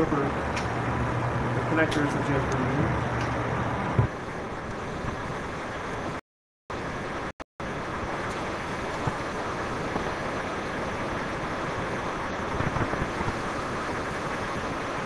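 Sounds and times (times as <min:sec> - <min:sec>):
server cooling fans: 0:00.0 - 0:15.0.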